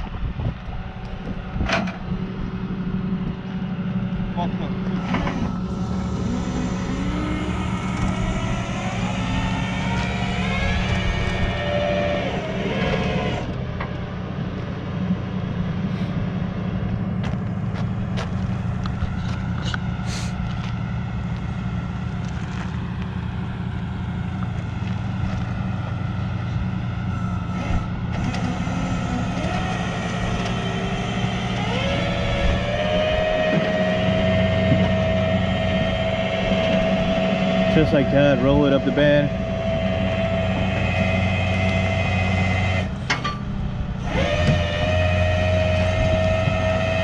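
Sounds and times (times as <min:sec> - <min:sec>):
truck engine humming: 0:00.0 - 0:47.0.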